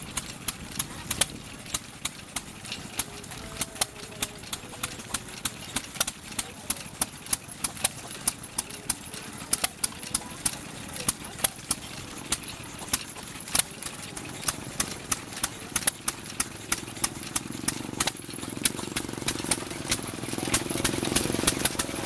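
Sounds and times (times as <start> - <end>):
sharp irregular clacks: 0.0 - 22.0
stationary gas engine running: 0.0 - 22.0.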